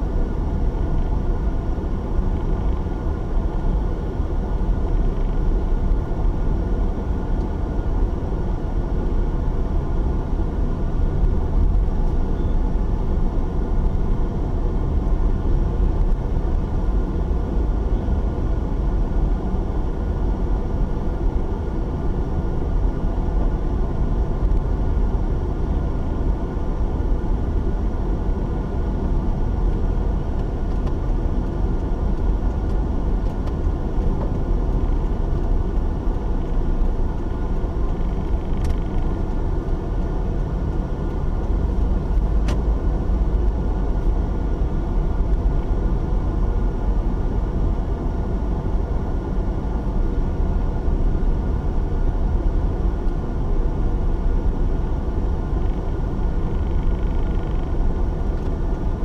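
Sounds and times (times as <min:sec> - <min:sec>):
car driving on paved road: 0:00.0 - 0:59.0.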